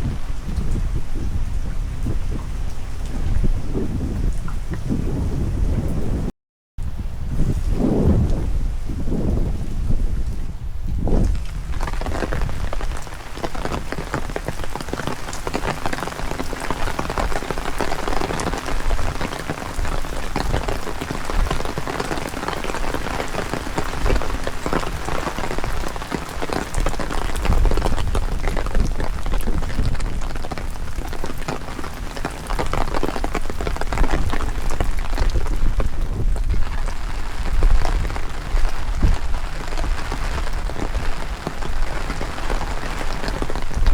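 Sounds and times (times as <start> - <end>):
heavy rain falling: 0.0 - 6.2, 6.9 - 43.9
low wind rumble: 0.0 - 43.9.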